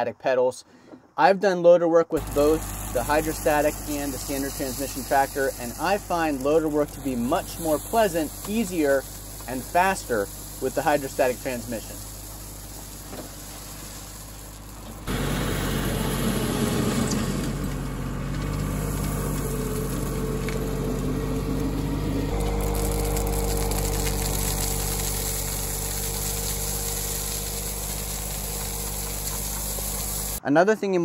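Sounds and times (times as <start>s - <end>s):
diesel tractor engine running: 2.2s - 30.4s
gravel scraping and pouring: 2.2s - 30.4s.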